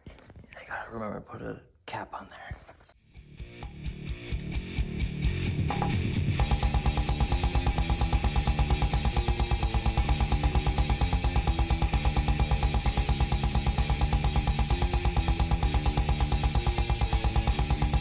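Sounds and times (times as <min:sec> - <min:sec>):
fast rock music: 0:03.2 - 0:18.0.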